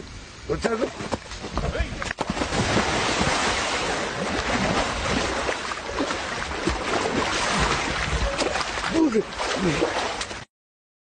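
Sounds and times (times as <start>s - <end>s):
floodwater splashing and churning: 0.9s - 10.5s.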